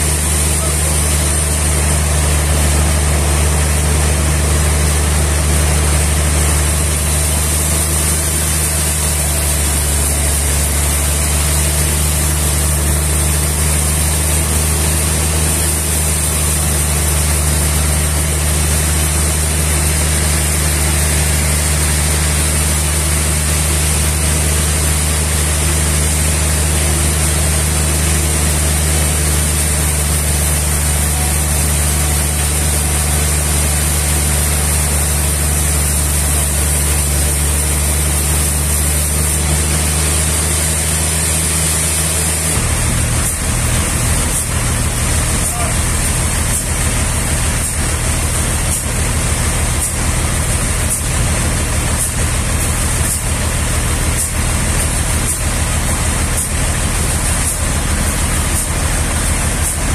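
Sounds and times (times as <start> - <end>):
machinery hiss: 0.0 - 59.9
sawmill machinery hum: 0.0 - 59.9.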